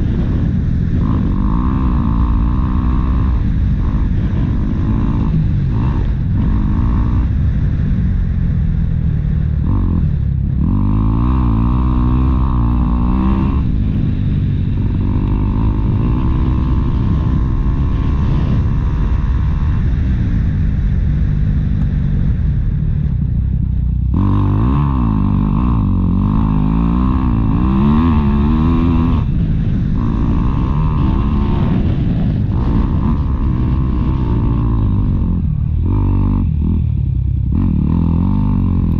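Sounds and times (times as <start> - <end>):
dirt bike engine revving: 0.0 - 22.3, 24.1 - 38.9.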